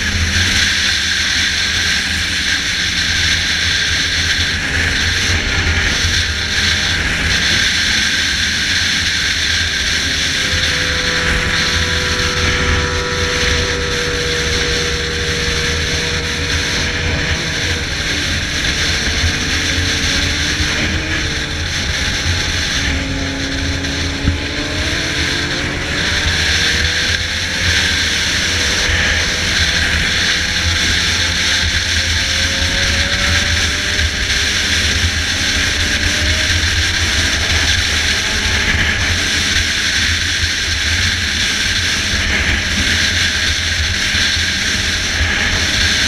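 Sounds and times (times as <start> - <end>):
motorcycle engine running: 0.0 - 46.0
wind rush on microphone: 0.0 - 46.0.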